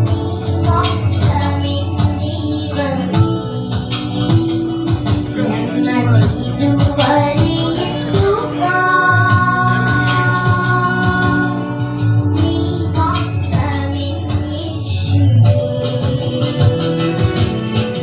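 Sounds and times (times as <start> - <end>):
girls singing into microphones: 0.0 - 4.7, 5.3 - 17.5
musical accompaniment with steady beat: 0.0 - 18.0.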